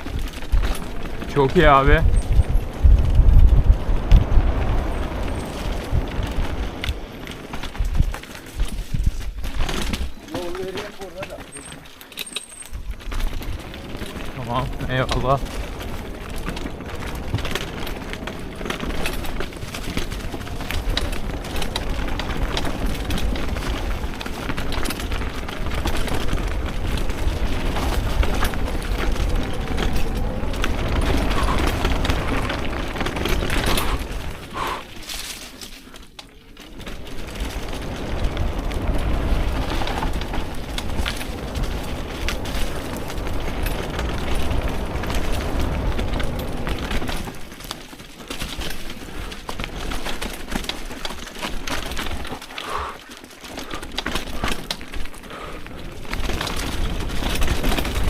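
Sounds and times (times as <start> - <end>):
wind buffeting microphone: 0.0 - 11.2, 12.7 - 35.4, 36.6 - 47.7, 53.6 - 58.0
tyre and trail noise: 0.0 - 58.0.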